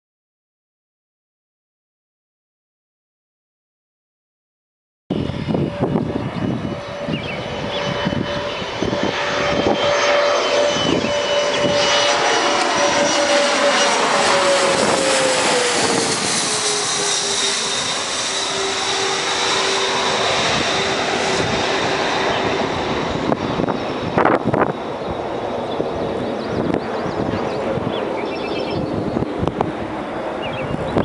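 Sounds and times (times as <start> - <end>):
jet engines whining overhead: 5.1 - 31.0.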